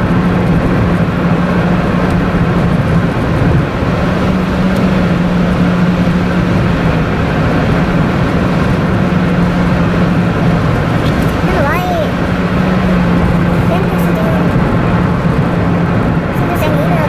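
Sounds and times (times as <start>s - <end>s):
car engine and tyre drone: 0.0s - 17.0s
constant low hum: 0.0s - 17.0s.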